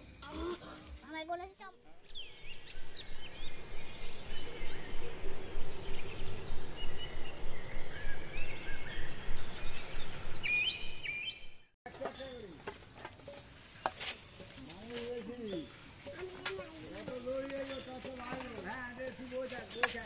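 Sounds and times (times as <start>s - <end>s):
birds chirping and calling: 1.8s - 12.5s, 13.6s - 20.0s.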